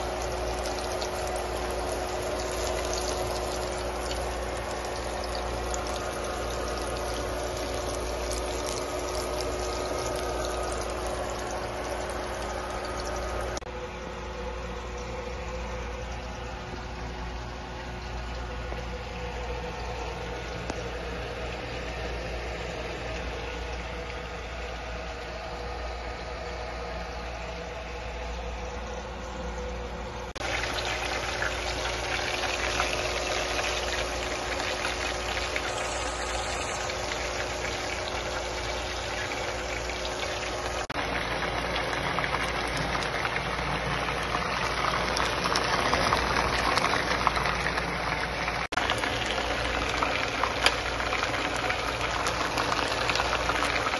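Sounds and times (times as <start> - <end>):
chicken frying in oil: 0.0 - 28.9, 29.6 - 53.9
low hum with faint hiss: 0.0 - 53.9.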